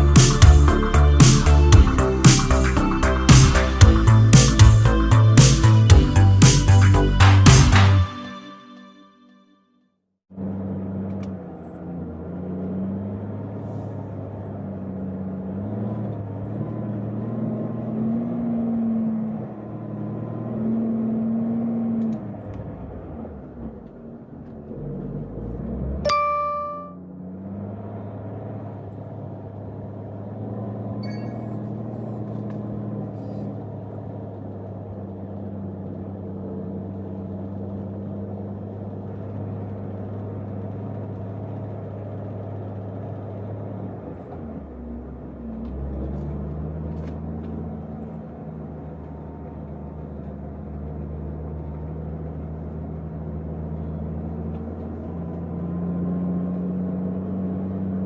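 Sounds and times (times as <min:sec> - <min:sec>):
heavy vehicle engine running: 0:00.0 - 0:08.1, 0:10.3 - 0:17.9, 0:22.1 - 0:55.6.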